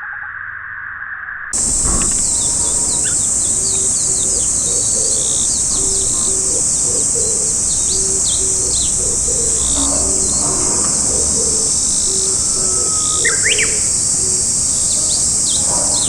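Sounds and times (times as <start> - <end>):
dove cooing: 1.6 - 16.0
high insect drone: 1.6 - 16.0
small birds chirping: 1.6 - 16.0.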